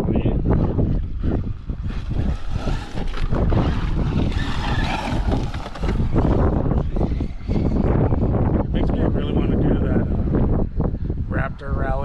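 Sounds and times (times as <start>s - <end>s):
gusty wind on microphone: 0.0s - 12.0s.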